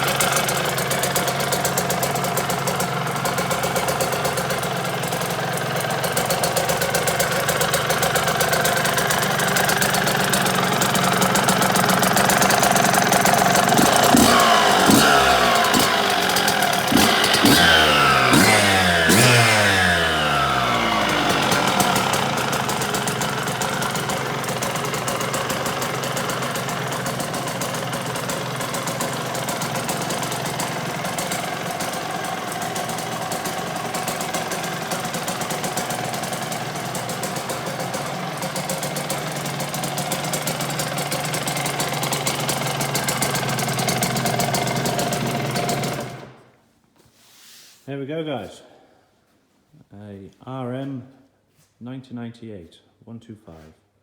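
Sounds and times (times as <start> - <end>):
two-stroke engine idling and revving: 0.0 - 46.5.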